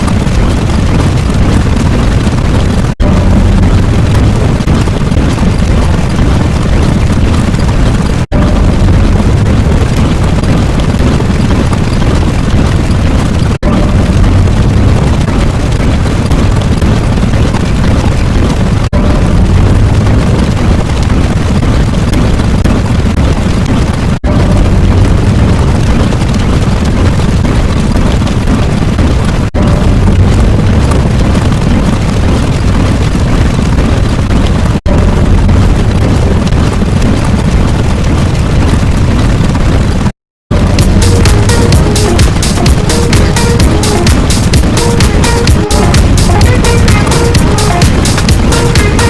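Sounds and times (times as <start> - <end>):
explosion-like rumbling: 0.0 - 49.0.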